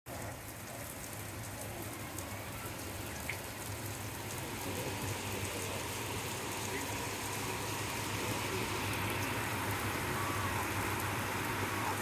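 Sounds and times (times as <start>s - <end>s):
heavy rain on concrete roof: 0.1s - 12.0s.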